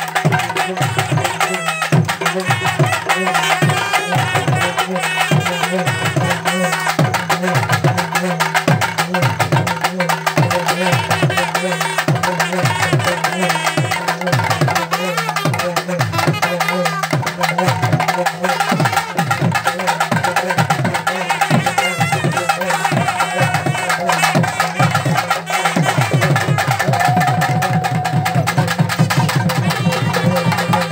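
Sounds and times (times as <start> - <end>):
trumpet melody: 0.0 - 7.3, 10.8 - 28.2, 29.0 - 30.9
barrel drums beaten fast: 0.0 - 30.9.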